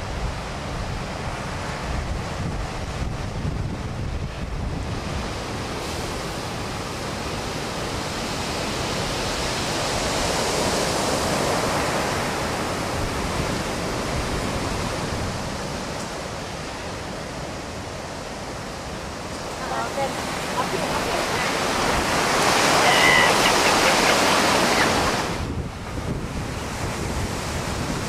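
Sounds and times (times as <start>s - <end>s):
waves washing over sand beach: 0.0s - 28.0s.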